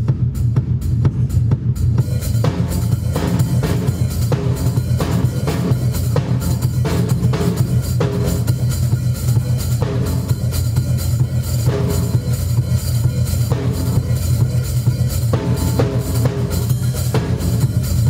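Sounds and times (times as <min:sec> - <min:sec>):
drum solo: 0:00.0 - 0:18.0.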